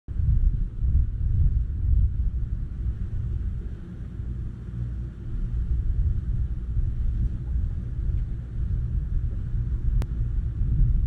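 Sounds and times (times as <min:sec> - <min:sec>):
wind buffeting microphone: 0:00.1 - 0:11.0.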